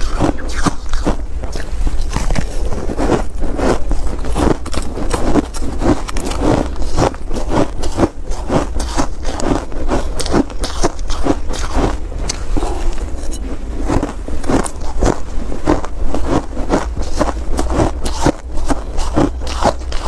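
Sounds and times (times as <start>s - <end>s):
spoon scraping ice: 0.0s - 15.2s, 16.2s - 20.0s
chewing crunchy ice: 0.0s - 20.0s
low rumble: 0.0s - 20.0s.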